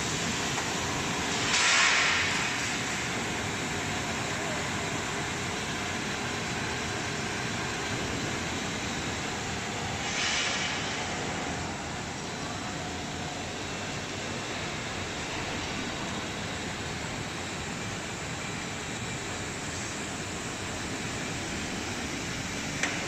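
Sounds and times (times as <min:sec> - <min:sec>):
washing machine bubbling rush: 0:00.0 - 0:23.0.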